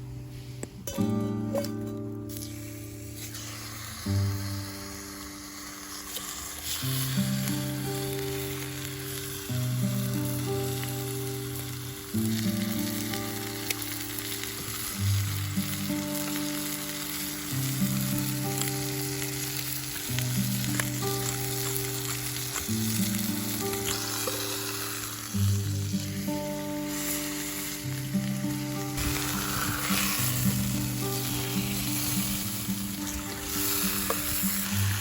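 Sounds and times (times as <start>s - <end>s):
background music of low notes: 0.0s - 35.0s
steak sizzling in a frying pan: 2.2s - 35.0s.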